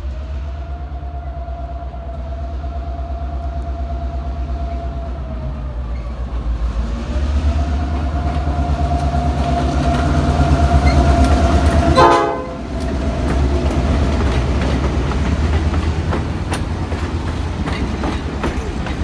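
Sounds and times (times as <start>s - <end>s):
diesel locomotive engine pulsing: 0.0s - 19.0s.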